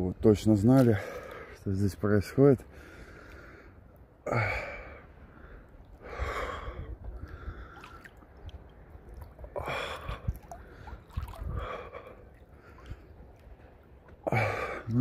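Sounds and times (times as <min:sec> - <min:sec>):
swimmer gasping breaths: 0:02.7 - 0:15.0.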